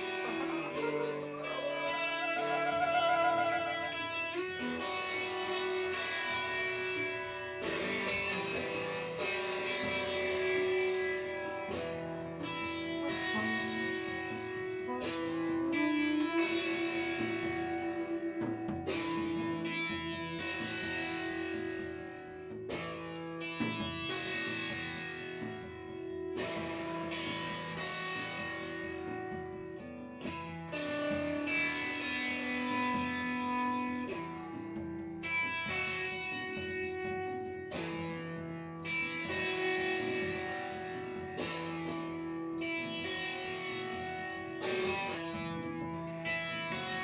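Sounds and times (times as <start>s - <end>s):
guitar with effects ringing notes: 0.0s - 47.0s.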